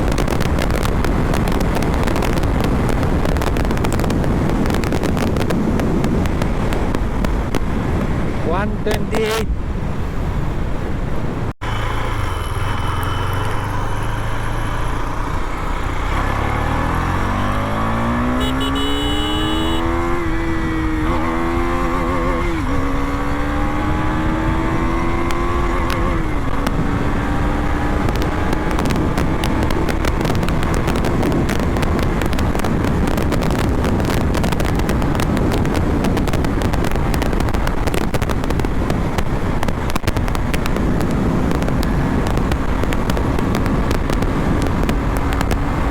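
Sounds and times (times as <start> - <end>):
motorcycle engine accelerating: 0.0 - 8.4, 11.6 - 45.9
wind buffeting microphone: 0.0 - 11.6, 19.8 - 45.9.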